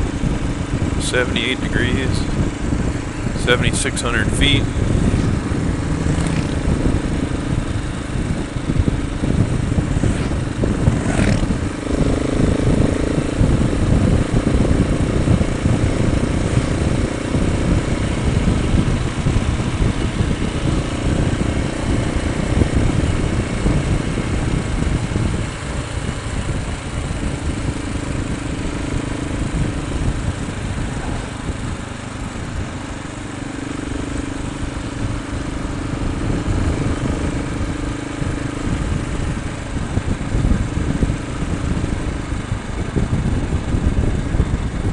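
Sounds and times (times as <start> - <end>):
motorcycle engine running: 0.0 - 44.9
wind noise: 0.0 - 44.9.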